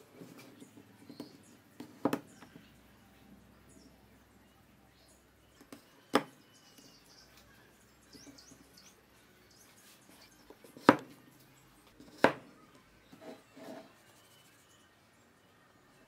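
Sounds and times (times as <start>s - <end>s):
faint bird chirps: 0.3s - 16.0s.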